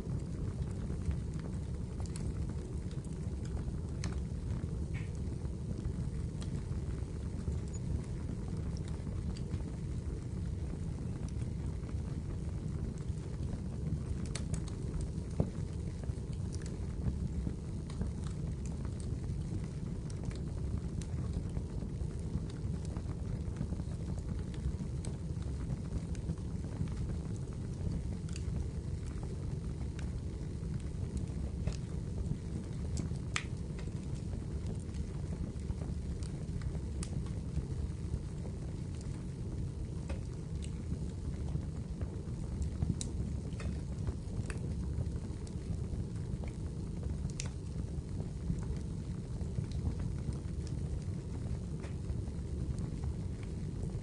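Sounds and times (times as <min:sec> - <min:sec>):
fire crackles and pops: 0:00.0 - 0:54.0
fire rumble: 0:00.0 - 0:54.0.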